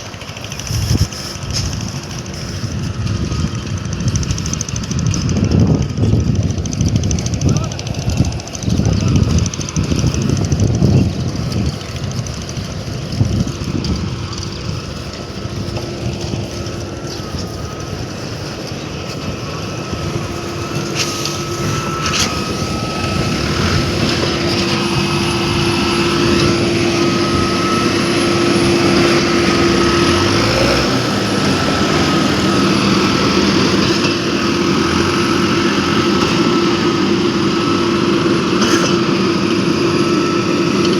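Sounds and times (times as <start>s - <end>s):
pump truck engine humming: 0.0s - 40.9s.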